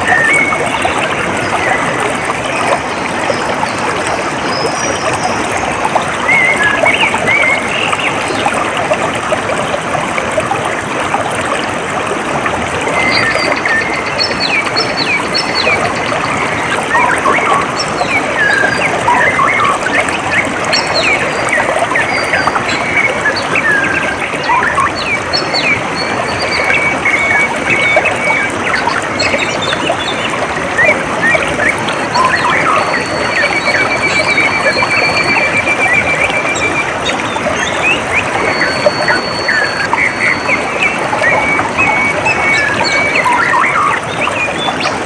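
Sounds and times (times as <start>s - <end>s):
water flowing and trickling: 0.0s - 45.0s.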